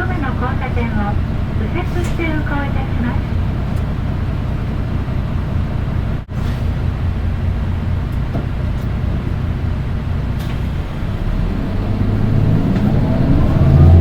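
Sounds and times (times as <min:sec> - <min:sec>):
bus diesel engine drone: 0:00.0 - 0:14.0
faint high engine whine: 0:00.0 - 0:14.0
road noise: 0:00.0 - 0:14.0.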